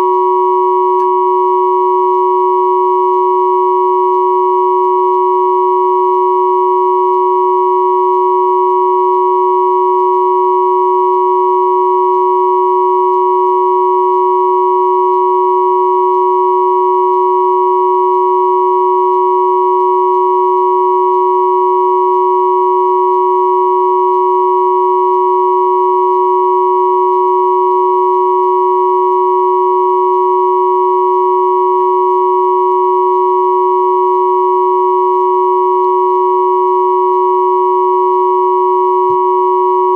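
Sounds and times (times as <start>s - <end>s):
electronic sine tone drone: 0.0s - 39.9s.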